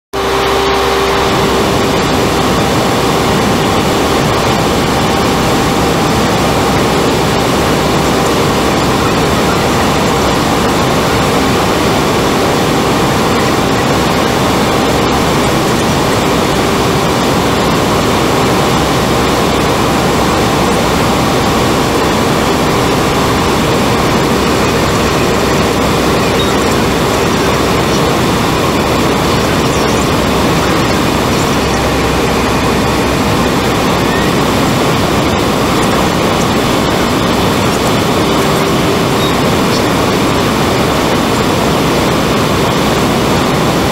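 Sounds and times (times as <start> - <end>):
propeller engines droning: 0.2 - 43.9
steady tones: 0.2 - 43.9.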